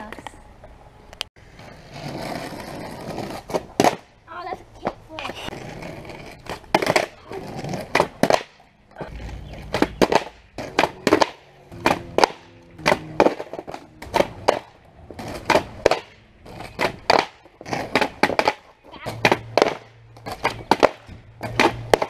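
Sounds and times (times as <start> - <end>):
skateboard wheels rolling: 0.1 - 22.0
skateboard clacking on asphalt: 1.4 - 22.0.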